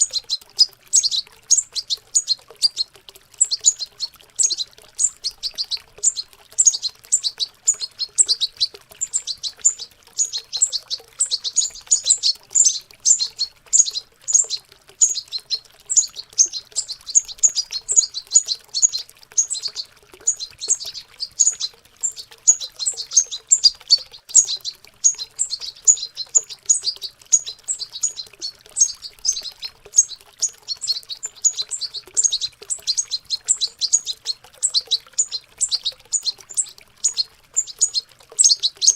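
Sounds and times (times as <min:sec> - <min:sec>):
birds twittering: 0:00.0 - 0:38.9
faint running water: 0:00.0 - 0:38.9.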